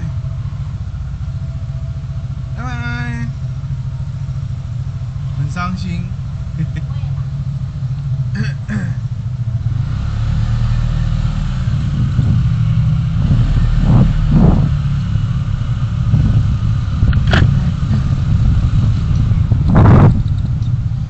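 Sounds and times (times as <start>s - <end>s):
vehicle rumbling in traffic: 0.0s - 21.0s.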